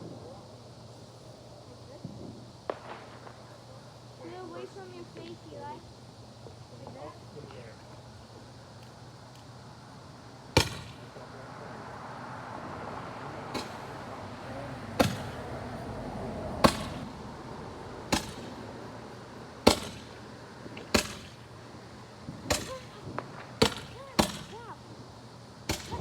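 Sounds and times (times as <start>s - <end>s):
burning fuse hiss: 0.0s - 26.0s.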